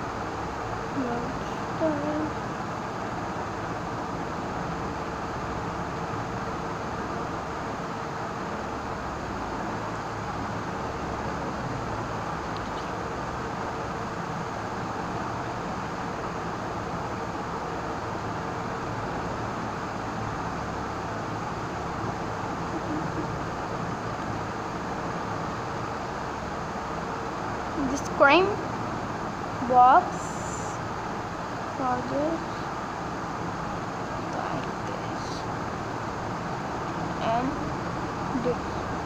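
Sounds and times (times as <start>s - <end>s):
background hiss and rumble: 0.0s - 39.0s
faint hum: 0.0s - 39.0s.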